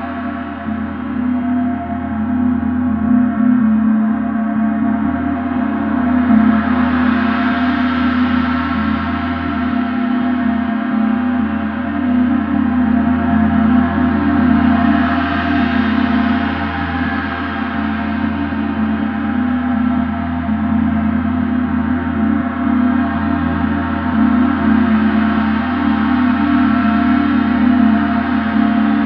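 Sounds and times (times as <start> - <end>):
large gong ringing: 0.0 - 29.0.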